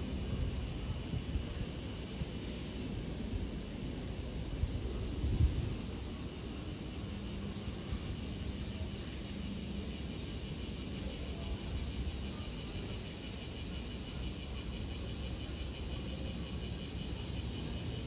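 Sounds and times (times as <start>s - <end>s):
insects calling in pulsing rhythm: 0.0s - 18.0s.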